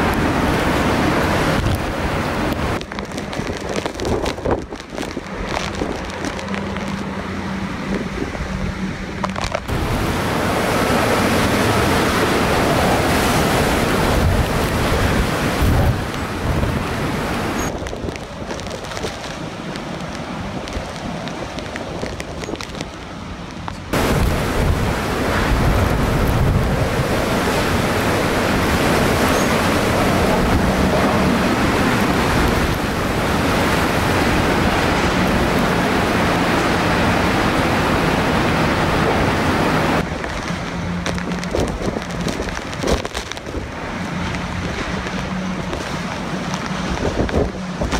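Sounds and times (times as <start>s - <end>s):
strong wind: 0.0s - 47.9s
torrential rain: 0.0s - 47.9s.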